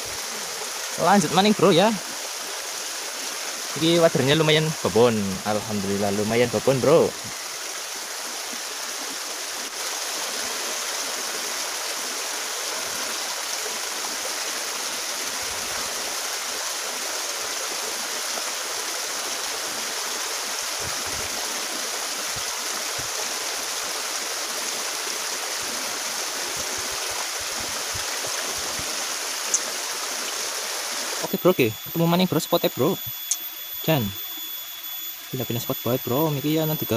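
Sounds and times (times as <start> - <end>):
stream rushing over cascade: 0.0 - 33.0.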